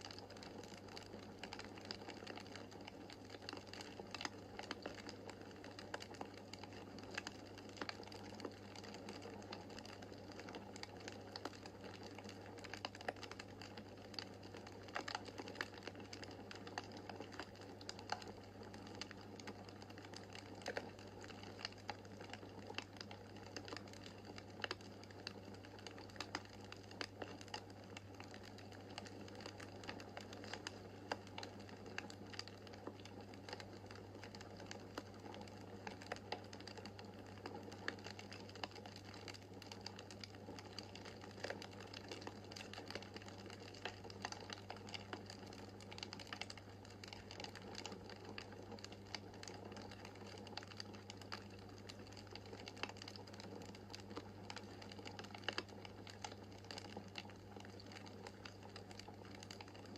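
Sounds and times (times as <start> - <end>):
faint steady hiss: 0.0 - 59.9
wood fire crackling: 0.0 - 59.9.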